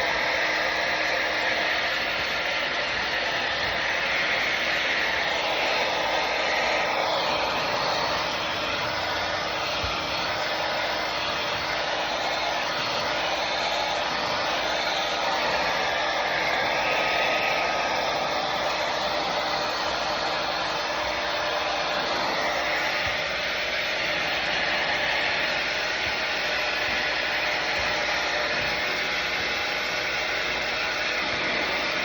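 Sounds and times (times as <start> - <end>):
hair dryer running: 0.0 - 32.0.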